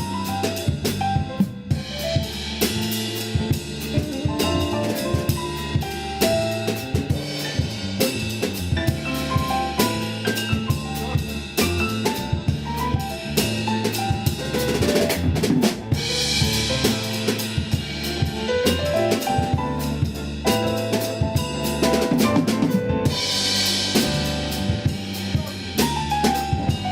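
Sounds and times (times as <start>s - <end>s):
band music: 0.0s - 26.9s
drum kit beat: 0.0s - 26.9s.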